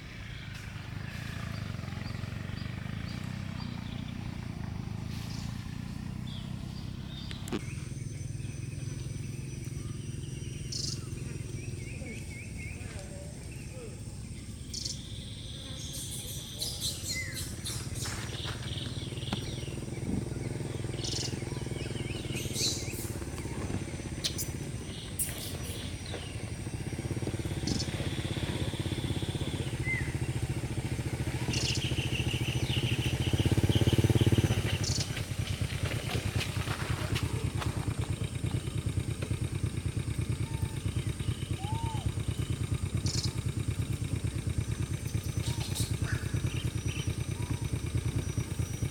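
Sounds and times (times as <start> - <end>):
low engine drone: 0.0 - 48.9.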